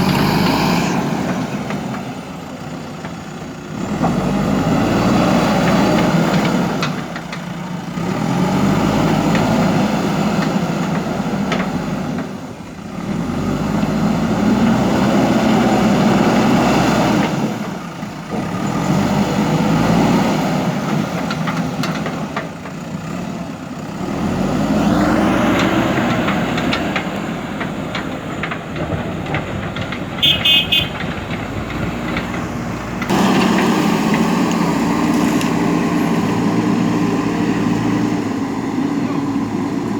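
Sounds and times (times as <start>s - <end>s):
diesel engine working: 0.0s - 39.9s.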